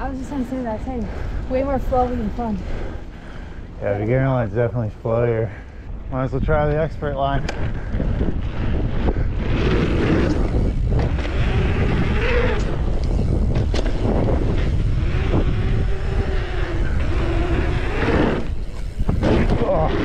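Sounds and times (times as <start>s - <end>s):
bike tyre rumble: 0.0s - 20.0s
wind buffeting microphone: 0.0s - 20.0s.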